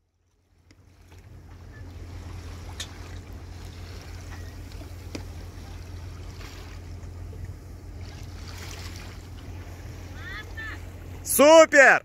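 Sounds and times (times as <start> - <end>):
boat engine drone: 0.0 - 12.0
water hissing along hull: 0.9 - 11.2.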